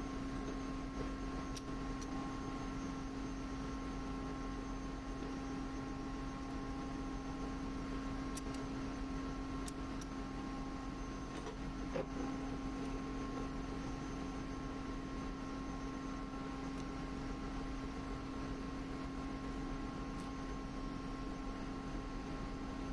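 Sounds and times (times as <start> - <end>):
machinery hum: 0.0 - 22.9.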